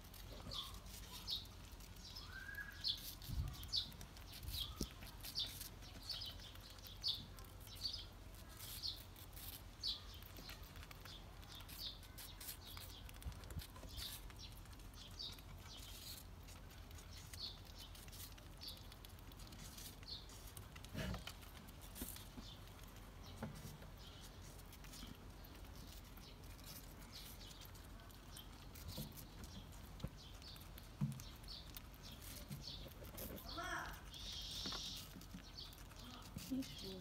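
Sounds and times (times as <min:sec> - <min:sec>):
birds chirping: 0:00.0 - 0:37.0
squirrel gnawing apple: 0:00.0 - 0:37.0.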